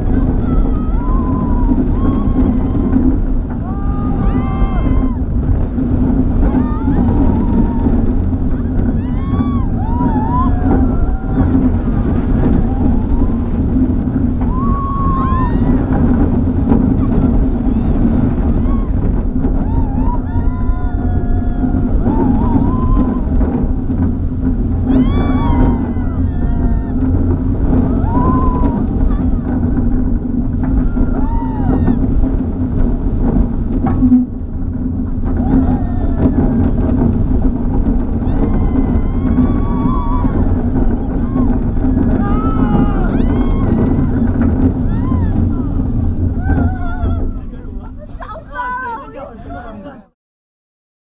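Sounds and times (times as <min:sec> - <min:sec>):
people yelling: 0:00.0 - 0:05.4, 0:06.3 - 0:16.4, 0:17.0 - 0:23.7, 0:24.8 - 0:29.6, 0:30.7 - 0:32.2, 0:35.3 - 0:36.8, 0:38.1 - 0:50.1
riders screaming and shouting: 0:00.0 - 0:50.0
wheels running on steel track: 0:00.0 - 0:50.1
roller coaster train rumbling: 0:00.0 - 0:50.2
wind buffeting microphone: 0:00.0 - 0:50.2.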